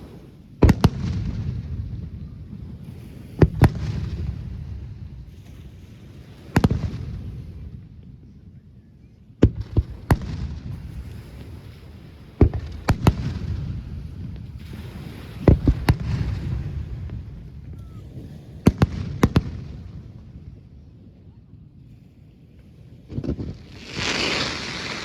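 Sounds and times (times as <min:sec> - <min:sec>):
fireworks bursting with sharp bangs: 0:00.0 - 0:05.8, 0:06.4 - 0:07.8, 0:09.4 - 0:20.4, 0:23.1 - 0:25.0
rumbling crackle of fireworks: 0:00.0 - 0:08.6, 0:09.4 - 0:25.0.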